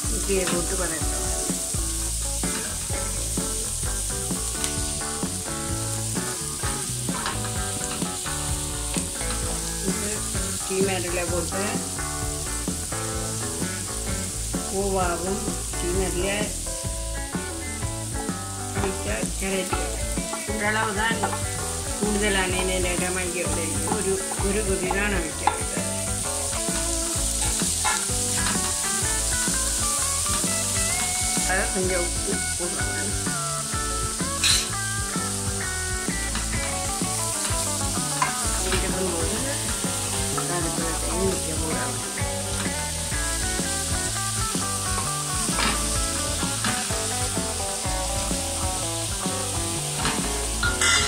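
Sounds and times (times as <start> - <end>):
background music: 0.0 - 51.0
onions sizzling in a pan: 0.0 - 51.0
spatula scraping wok: 0.0 - 51.0.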